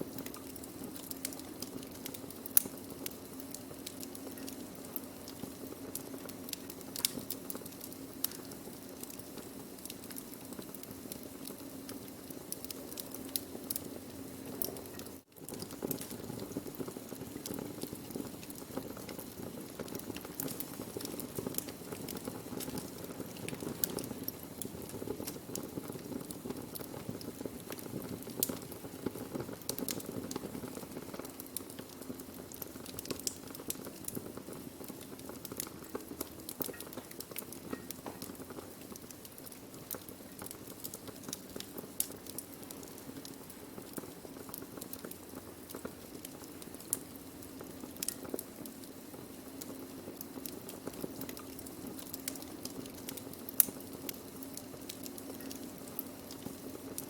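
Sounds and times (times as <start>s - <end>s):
burning wood crackling and popping: 0.0s - 57.0s.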